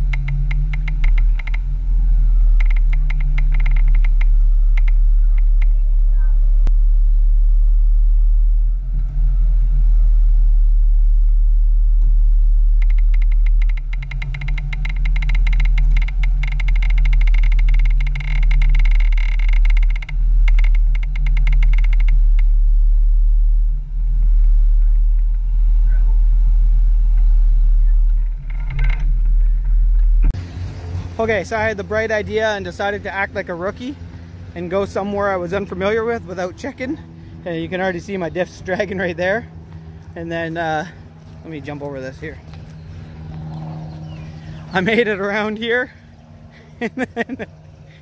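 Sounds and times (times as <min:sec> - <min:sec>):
engine running under load: 0:00.0 - 0:48.0
rapid crackling and scraping: 0:00.0 - 0:48.0.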